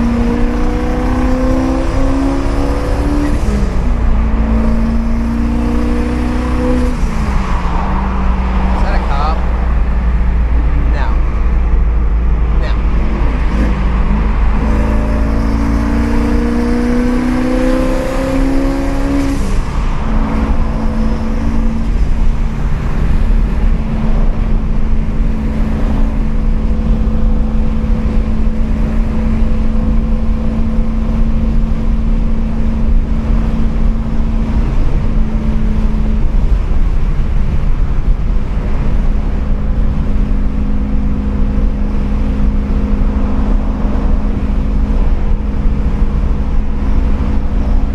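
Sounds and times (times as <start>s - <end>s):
car engine from inside cabin: 0.0s - 47.9s
heavy exhaust rumble: 0.0s - 47.9s.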